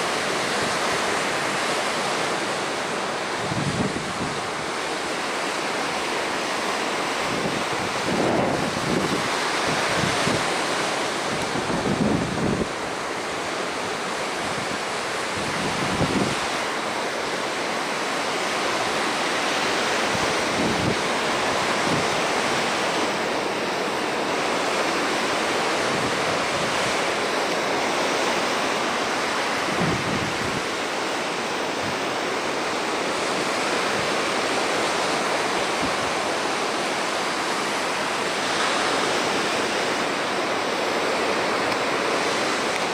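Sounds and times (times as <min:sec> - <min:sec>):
waves breaking: 0:00.0 - 0:42.9
wind gusting on microphone: 0:00.0 - 0:42.9.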